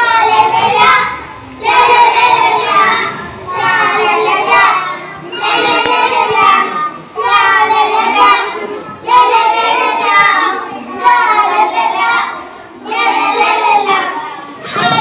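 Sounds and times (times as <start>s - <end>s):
children singing into a microphone: 0.0s - 15.0s.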